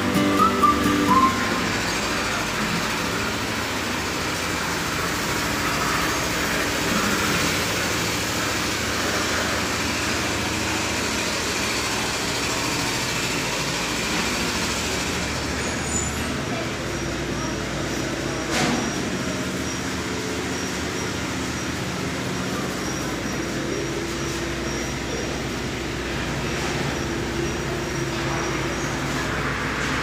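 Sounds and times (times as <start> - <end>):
road traffic hiss: 0.0 - 30.0.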